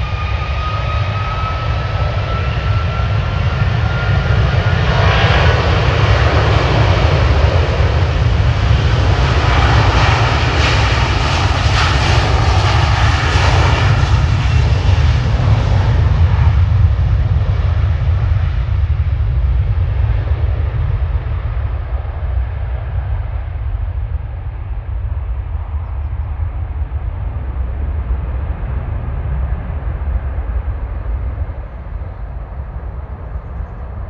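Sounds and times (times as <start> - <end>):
jet airliner engine roar: 0.0 - 34.0.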